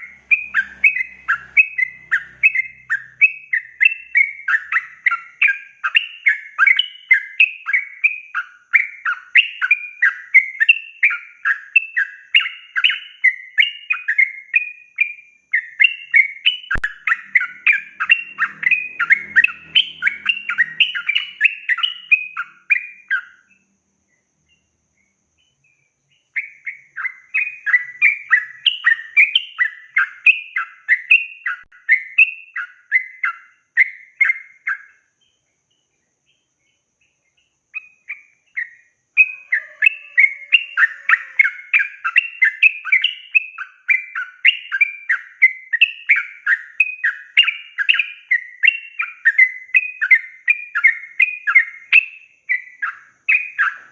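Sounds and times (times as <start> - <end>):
bird singing chattering notes: 0.0 - 14.5, 15.6 - 23.6, 25.4 - 53.9.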